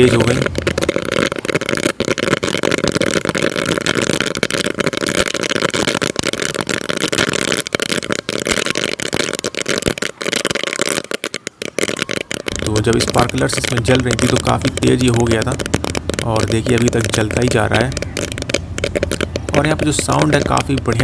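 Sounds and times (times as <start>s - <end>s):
flame hissing: 0.0s - 20.9s
roll caps crackling: 0.0s - 21.0s.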